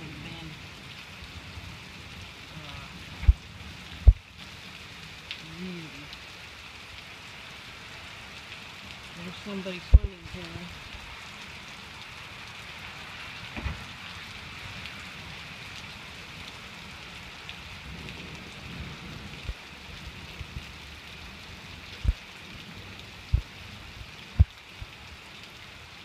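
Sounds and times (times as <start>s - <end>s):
rain falling on trees: 0.0s - 26.0s.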